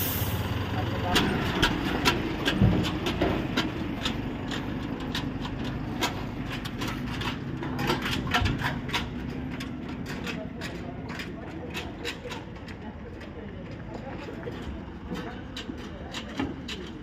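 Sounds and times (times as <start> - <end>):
diesel truck engine rumbling: 0.0 - 17.0
sharp clicks and knocks: 1.0 - 17.0.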